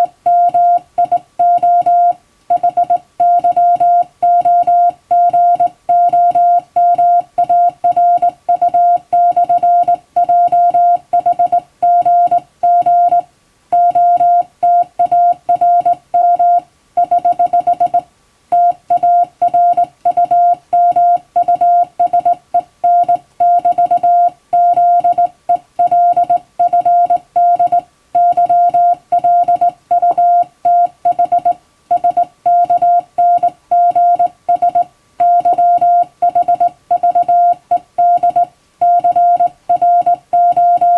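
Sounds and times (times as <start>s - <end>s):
morse code beeps: 0.0s - 13.2s, 13.8s - 18.0s, 18.6s - 40.9s.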